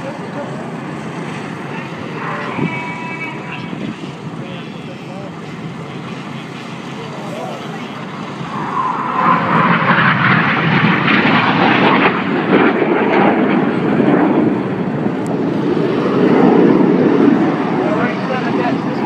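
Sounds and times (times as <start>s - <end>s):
jets flying past: 0.0s - 19.0s.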